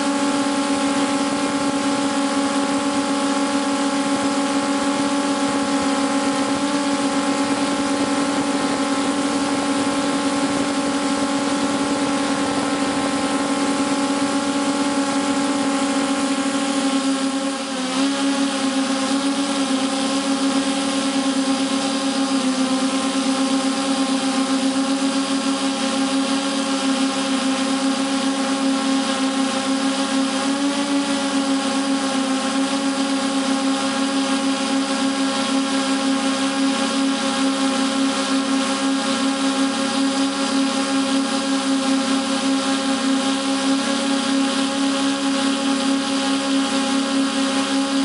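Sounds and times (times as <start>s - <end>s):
drone motors buzzing hum: 0.0s - 48.0s.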